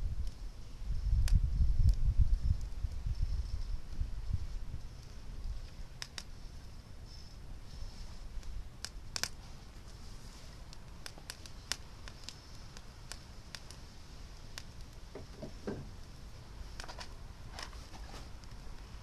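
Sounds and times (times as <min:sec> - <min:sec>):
faint steady hiss: 0:00.0 - 0:19.0
fire crackling and popping: 0:00.0 - 0:19.0.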